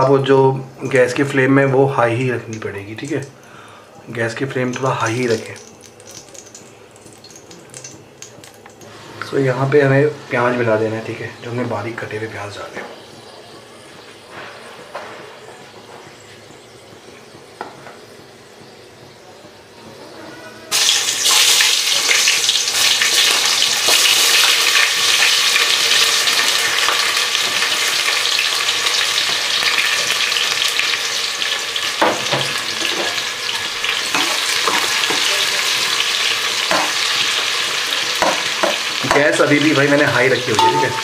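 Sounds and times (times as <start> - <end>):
onions sizzling in hot oil: 0.8 - 9.7, 16.6 - 41.0.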